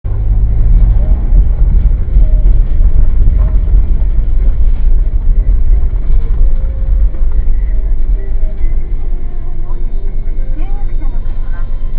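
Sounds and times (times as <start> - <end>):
car engine rumble: 0.0 - 11.9
road noise inside car: 0.0 - 11.9.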